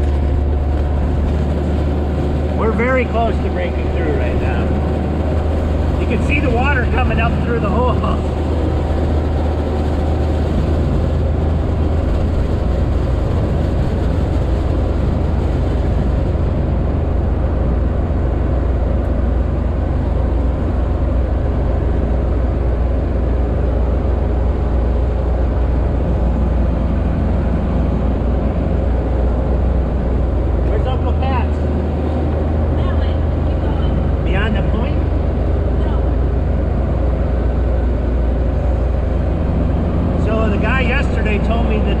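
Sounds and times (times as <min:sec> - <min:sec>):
diesel engine droning: 0:00.0 - 0:42.0
rushing noise: 0:00.0 - 0:42.0.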